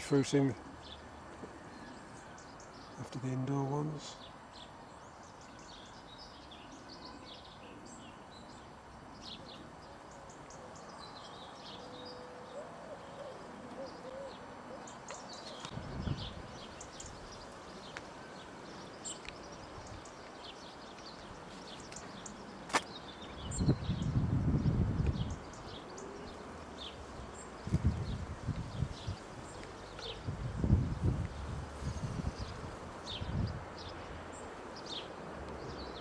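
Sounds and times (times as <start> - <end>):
faint birdsong: 0.0 - 36.0.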